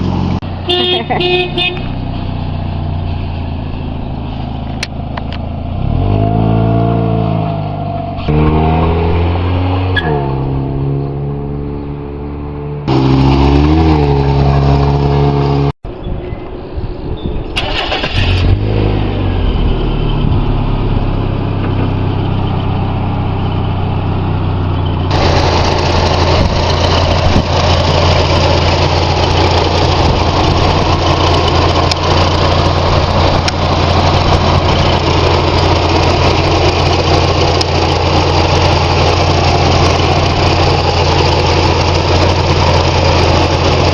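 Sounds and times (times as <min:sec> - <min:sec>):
car engine revving: 0:04.7 - 0:15.8, 0:17.6 - 0:43.9.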